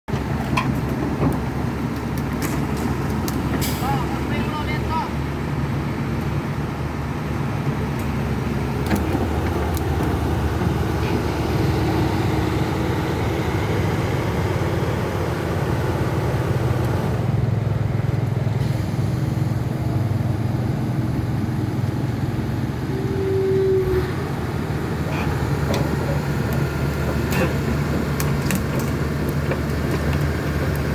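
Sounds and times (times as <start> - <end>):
excavator diesel engine running: 0.1 - 30.9.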